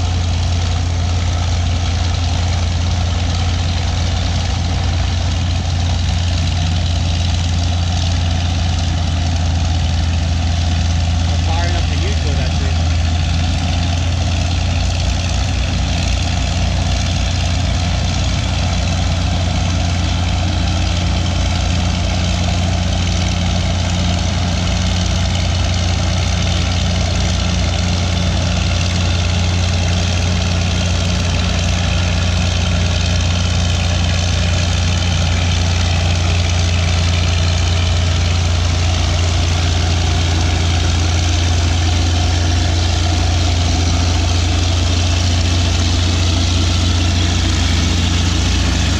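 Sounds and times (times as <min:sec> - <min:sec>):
bulldozer diesel engines running: 0:00.0 - 0:48.9
bulldozer pushing dirt: 0:00.0 - 0:48.9.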